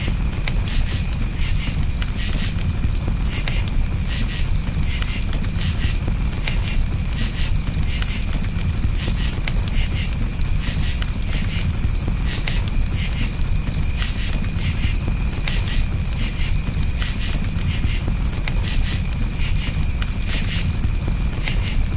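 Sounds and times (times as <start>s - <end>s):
campfire rumble: 0.0s - 21.9s
crickets chirping: 0.0s - 21.9s
faint fire crackles: 0.0s - 21.9s.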